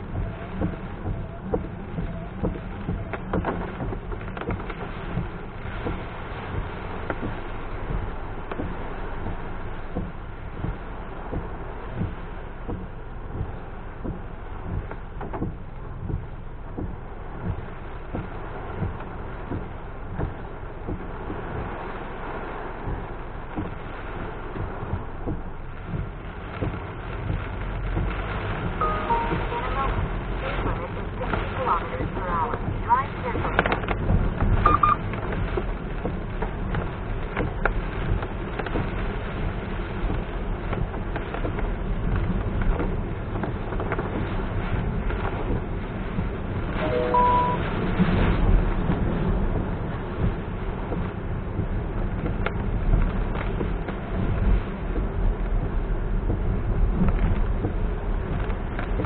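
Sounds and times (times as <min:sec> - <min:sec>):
heavy rain and wet road noise: 0:00.0 - 0:59.0
windscreen wipers sweeping: 0:00.0 - 0:59.0.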